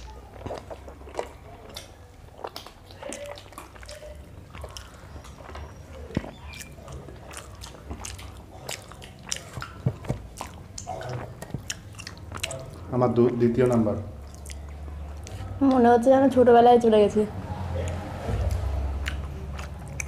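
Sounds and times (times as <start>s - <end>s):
people chewing: 0.0s - 16.1s, 17.4s - 20.0s.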